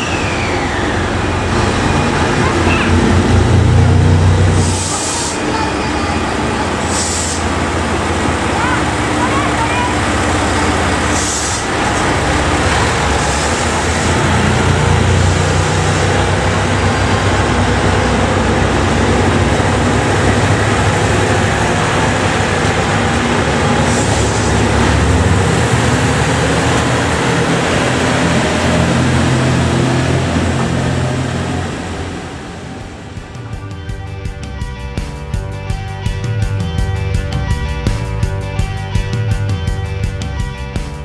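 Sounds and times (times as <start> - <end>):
diesel railcar engines running: 0.0 - 41.0.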